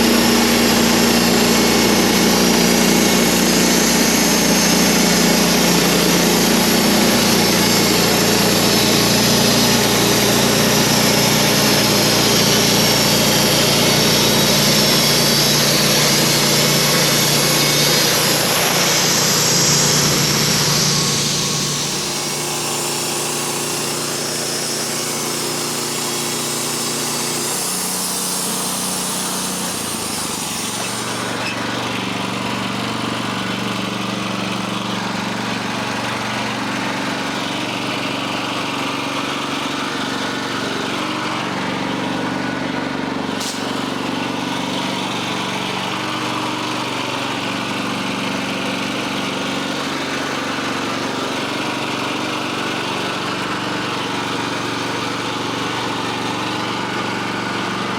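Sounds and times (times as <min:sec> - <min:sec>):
high hissing sawing: 0:00.0 - 0:57.9
sawmill engine running: 0:00.0 - 0:57.9.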